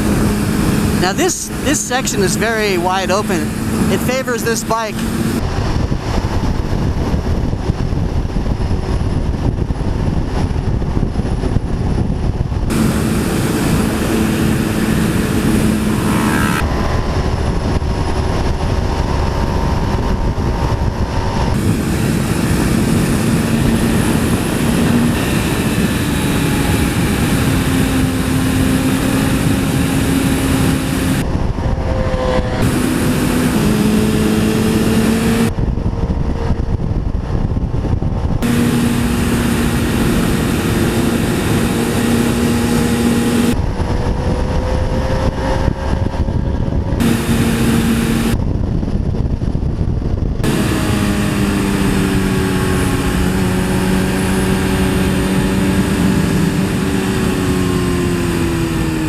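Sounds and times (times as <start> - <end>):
motorcycle engine revving: 0.0 - 59.0
wind rushing: 0.0 - 59.0.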